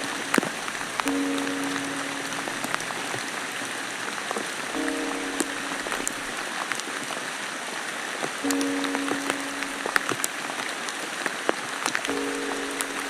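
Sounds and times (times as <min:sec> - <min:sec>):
sharp drips: 0:00.0 - 0:13.0
steady rain: 0:00.0 - 0:13.0.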